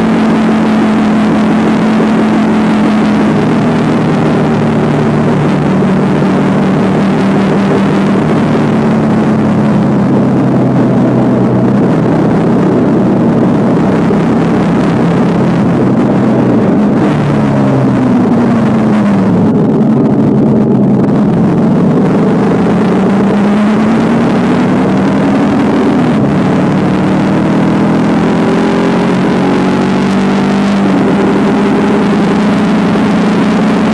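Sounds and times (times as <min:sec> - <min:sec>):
motorcycle engine cruising: 0:00.0 - 0:33.9
wind rush: 0:00.0 - 0:33.9.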